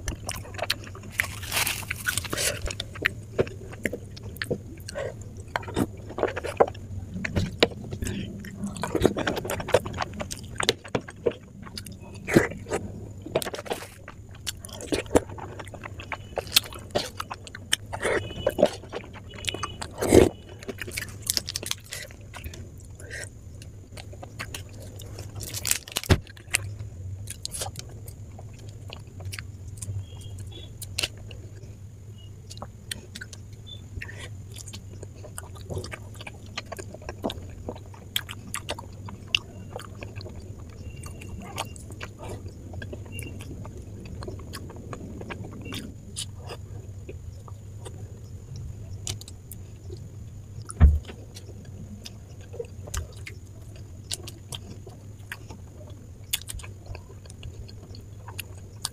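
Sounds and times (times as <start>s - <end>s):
person chewing: 0.0s - 31.8s, 32.4s - 58.9s
low hum: 0.0s - 58.9s
faint high whine: 11.3s - 58.9s.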